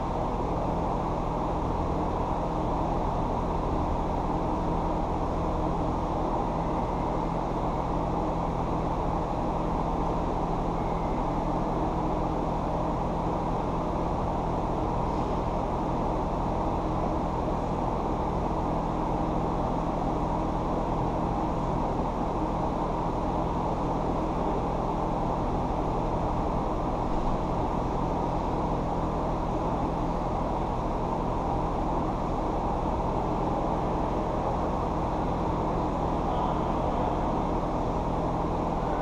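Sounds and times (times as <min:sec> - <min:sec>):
machinery hum and rumble: 0:00.0 - 0:39.0.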